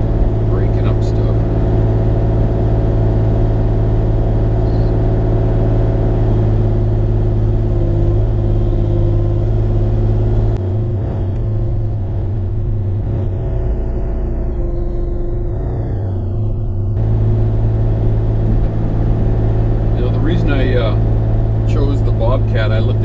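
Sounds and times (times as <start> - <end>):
mini excavator diesel engine running: 0.0 - 23.0.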